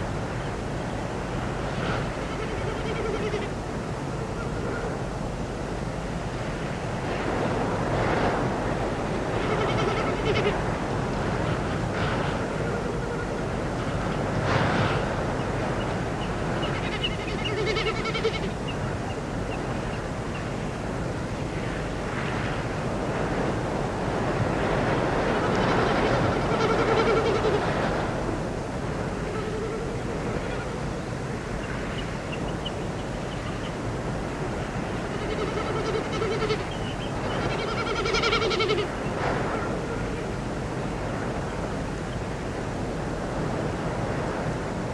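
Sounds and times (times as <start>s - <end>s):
rushing background hiss: 0.0s - 44.9s.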